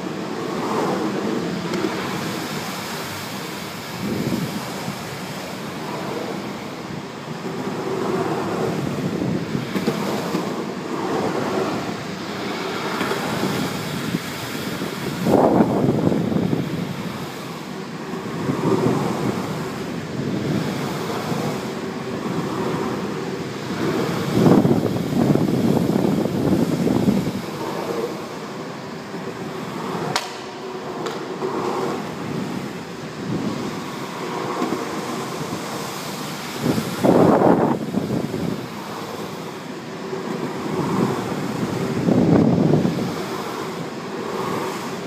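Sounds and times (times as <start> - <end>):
longboard wheels rolling on concrete: 0.0 - 45.0
wind on microphone: 0.4 - 6.5, 7.5 - 12.1, 13.2 - 17.5, 18.2 - 28.2, 31.7 - 34.0, 34.8 - 39.2, 40.5 - 45.0.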